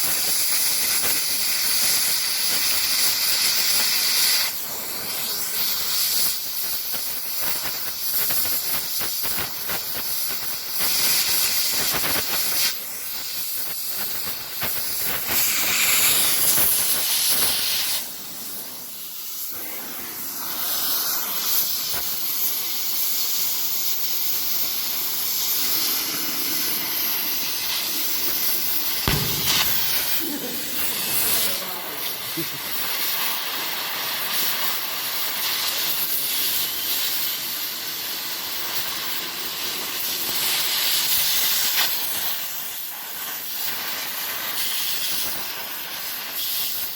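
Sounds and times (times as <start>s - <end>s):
gas cutting torch hissing: 0.0s - 46.9s.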